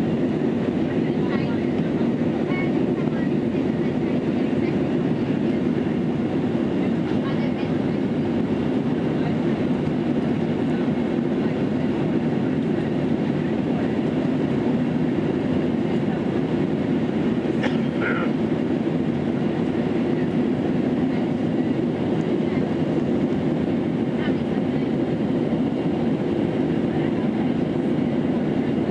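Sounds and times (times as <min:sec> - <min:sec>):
airliner cabin engine rush: 0:00.0 - 0:28.9.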